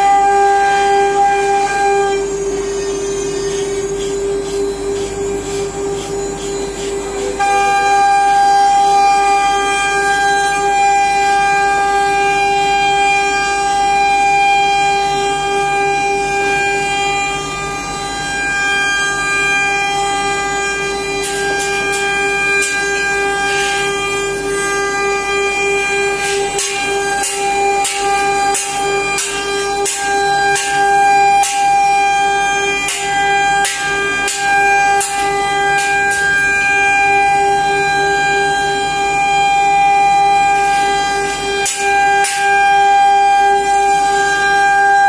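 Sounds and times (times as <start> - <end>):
cnc router spindle whining: 0.0 - 45.0.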